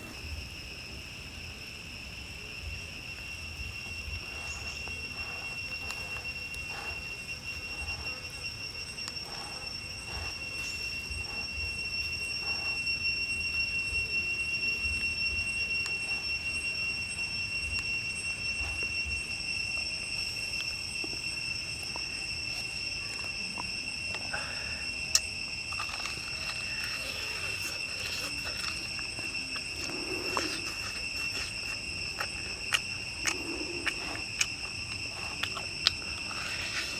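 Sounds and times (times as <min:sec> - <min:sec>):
insect trill: 0:00.0 - 0:36.9.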